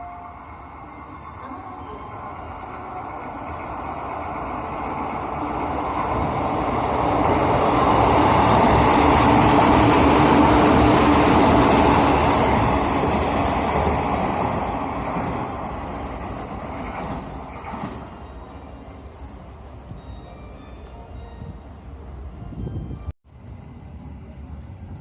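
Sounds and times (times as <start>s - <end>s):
electric train running past: 0.0s - 25.0s.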